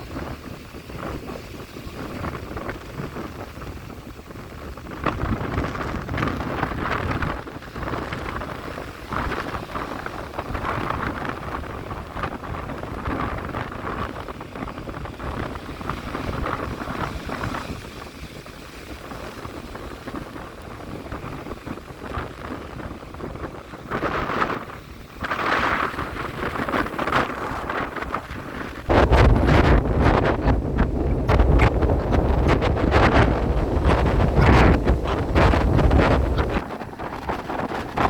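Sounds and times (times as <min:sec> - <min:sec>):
waves crashing on shore: 0:00.0 - 0:38.0
wind buffeting microphone: 0:00.0 - 0:38.0.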